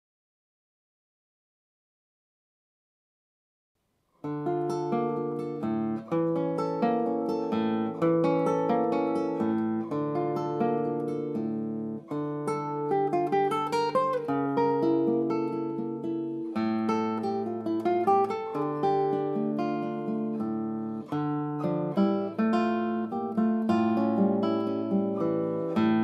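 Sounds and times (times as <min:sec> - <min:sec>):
classical guitar playing: 0:04.2 - 0:26.0.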